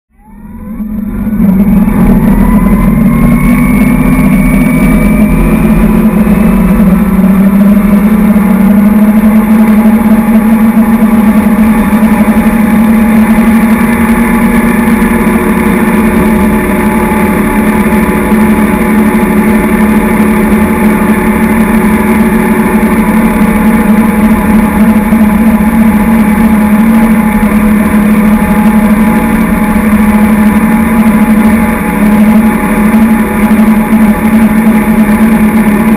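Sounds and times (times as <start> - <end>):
boat engine: 0.1 - 35.9
wind: 0.1 - 35.9.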